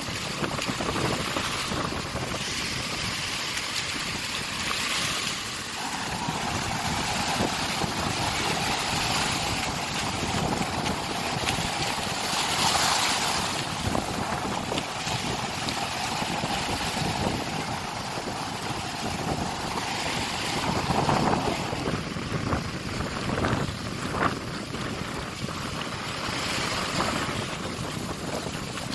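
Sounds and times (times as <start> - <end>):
surf breaking on a beach: 0.0 - 28.9
wind buffeting microphone: 0.0 - 28.9.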